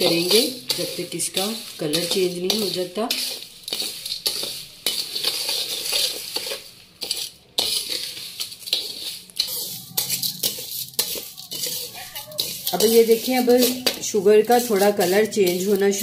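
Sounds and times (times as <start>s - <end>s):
spoon scraping metal pan: 0.0s - 16.0s.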